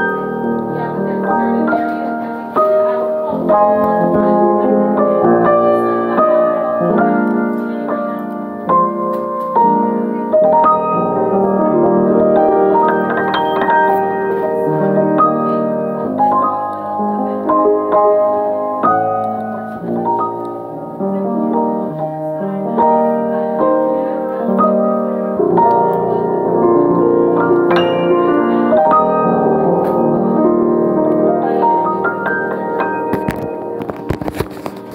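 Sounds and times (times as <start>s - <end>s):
piano chords and melody: 0.0s - 34.9s.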